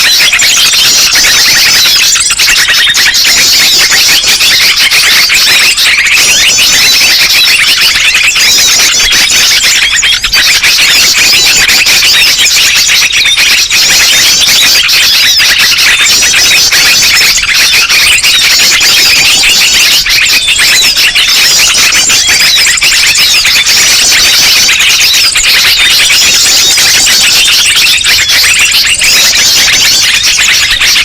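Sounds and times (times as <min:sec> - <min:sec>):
chorus of small birds chirping: 0:00.0 - 0:31.0.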